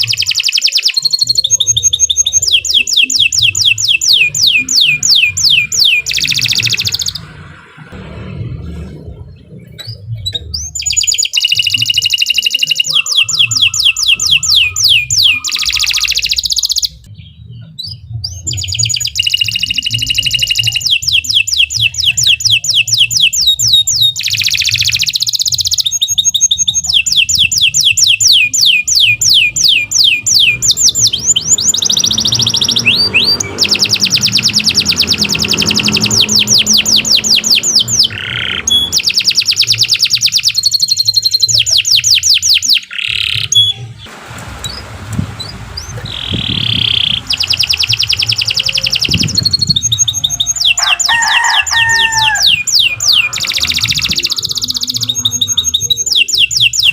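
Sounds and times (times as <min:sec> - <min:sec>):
canary singing trills: 0:00.0 - 0:44.8, 0:45.4 - 0:56.9.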